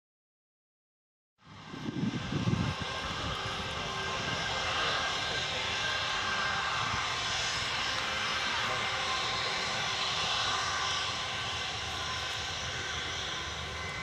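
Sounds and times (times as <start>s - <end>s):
jet engines whining at takeoff: 1.4s - 14.0s.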